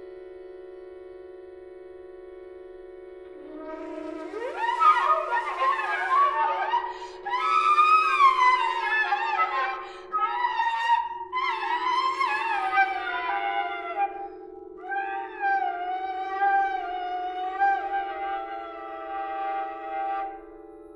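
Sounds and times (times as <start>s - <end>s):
chamber music ensemble: 3.4s - 20.9s.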